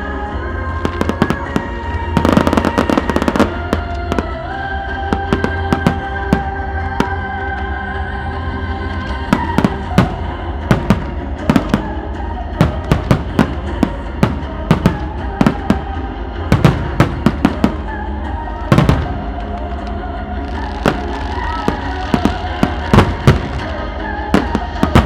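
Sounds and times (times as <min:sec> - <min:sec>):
music playing: 0:00.0 - 0:25.0.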